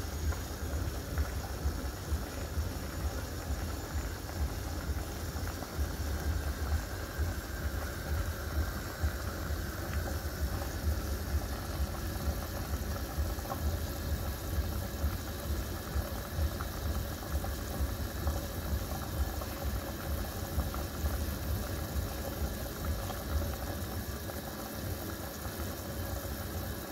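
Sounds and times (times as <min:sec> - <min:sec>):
soup boiling and bubbling: 0:00.0 - 0:26.9.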